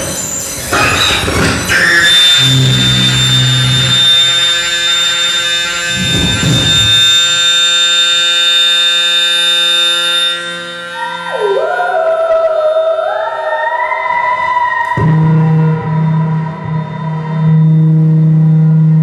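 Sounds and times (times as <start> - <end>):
electronic noise drone: 0.0 - 19.0
siren-like wavering tones: 0.0 - 19.0.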